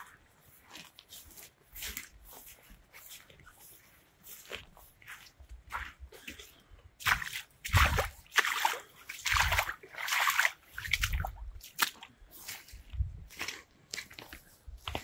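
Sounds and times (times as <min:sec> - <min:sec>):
footsteps squelching in wet mud: 0:00.0 - 0:15.0.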